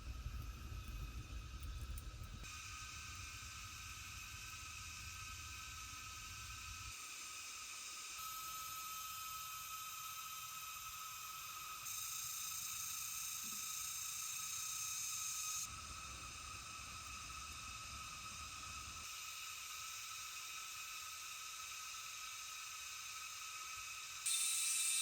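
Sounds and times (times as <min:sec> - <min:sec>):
jungle insects hissing: 0:00.0 - 0:25.0.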